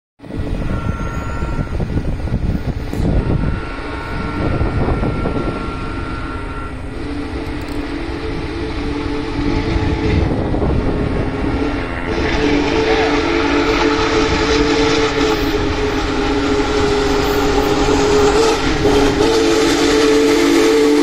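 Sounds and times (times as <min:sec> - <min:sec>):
steam locomotive rumble: 0:00.2 - 0:21.0
train whistle chord: 0:00.3 - 0:21.0.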